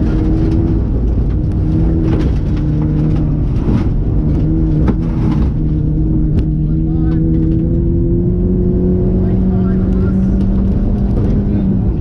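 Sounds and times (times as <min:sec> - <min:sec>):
gravel knocks and rattles: 0:00.0 - 0:07.8, 0:09.9 - 0:12.0
rally car engine loud: 0:00.0 - 0:12.0.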